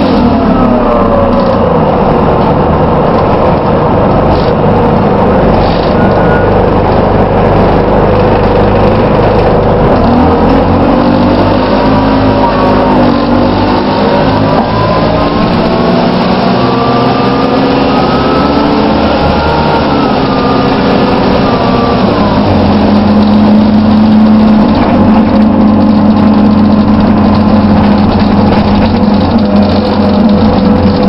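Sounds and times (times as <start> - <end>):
bus drivetrain whirring: 0.0 - 31.0.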